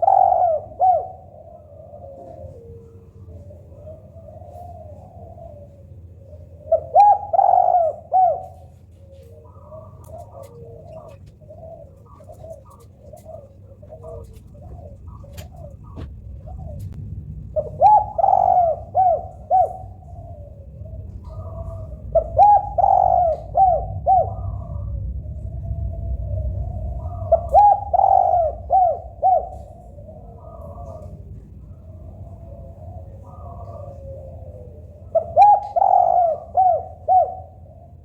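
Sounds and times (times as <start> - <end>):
doves cooing: 0.0 - 38.0.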